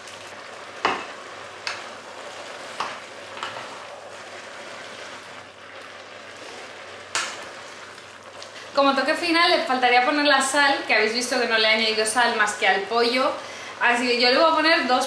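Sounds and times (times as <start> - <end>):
sizzle from pot: 0.0 - 15.0.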